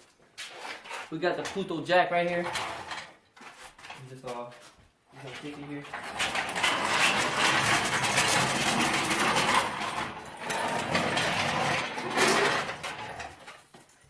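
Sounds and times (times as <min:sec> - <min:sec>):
floor jack rattling and scraping: 0:00.4 - 0:04.0, 0:05.2 - 0:14.0.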